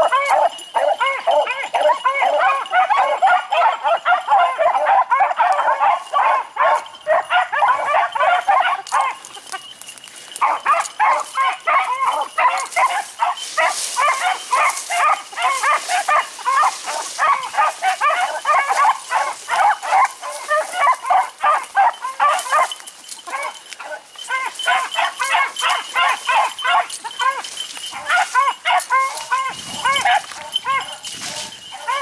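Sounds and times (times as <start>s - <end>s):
dogs baying: 0.0s - 32.0s.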